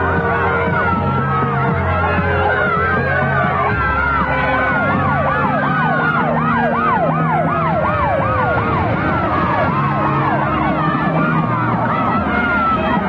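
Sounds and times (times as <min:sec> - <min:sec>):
siren gliding down in pitch: 0:00.0 - 0:13.0
siren yelping: 0:00.0 - 0:13.0.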